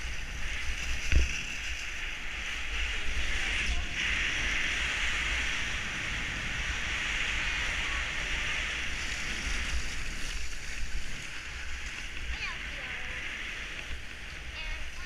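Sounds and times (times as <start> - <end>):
skis sliding over snow: 0.0 - 15.0
wind rumbling on microphone: 0.0 - 15.0.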